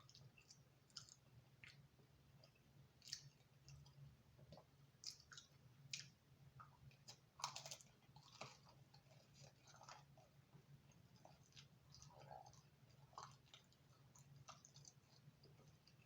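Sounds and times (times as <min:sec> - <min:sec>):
chewing crispy pizza: 0:00.0 - 0:16.0.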